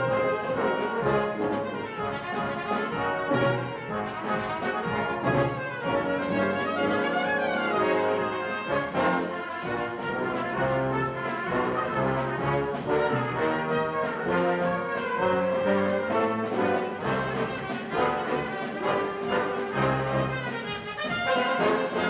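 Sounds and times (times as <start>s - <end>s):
brass ensemble playing: 0.0s - 22.0s
drums: 0.0s - 22.0s.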